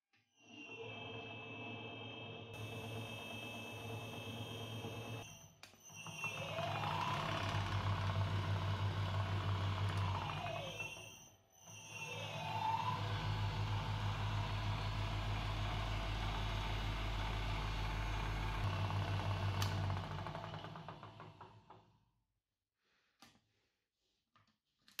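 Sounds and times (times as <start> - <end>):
drill press motor humming: 0.6 - 21.9.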